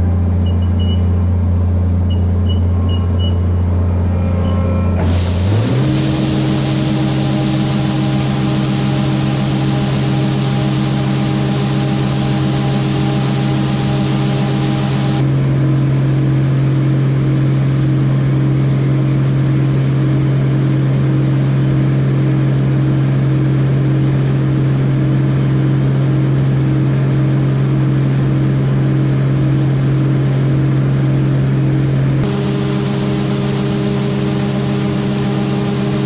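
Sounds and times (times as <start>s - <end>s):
engine humming steadily: 0.0s - 36.0s.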